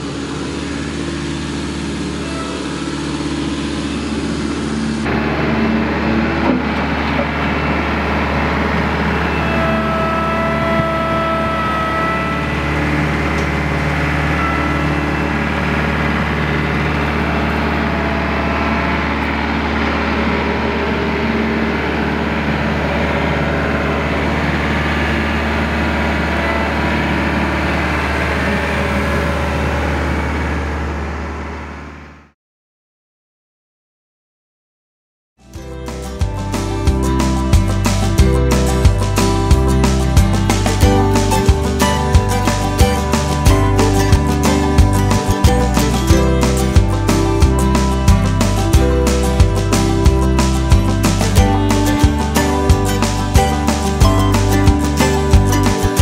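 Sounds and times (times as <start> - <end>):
tractor diesel engine running: 0.0 - 32.4, 35.4 - 56.0.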